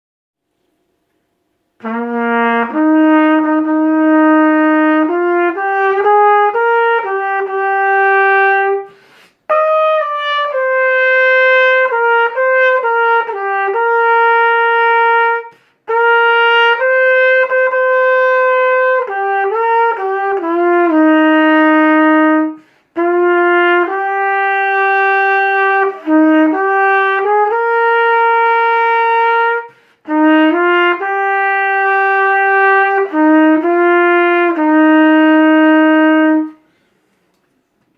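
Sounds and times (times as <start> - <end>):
solo trumpet melody: 1.7 - 36.9.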